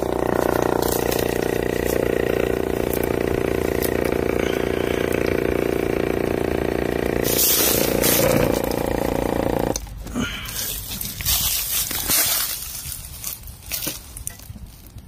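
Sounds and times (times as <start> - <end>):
tire inflator compressor running: 0.0 - 12.5.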